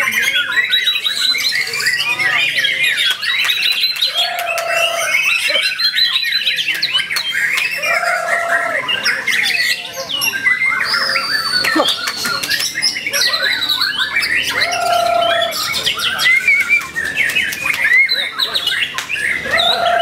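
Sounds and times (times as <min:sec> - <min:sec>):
bird singing whistles and trills: 0:00.0 - 0:20.0.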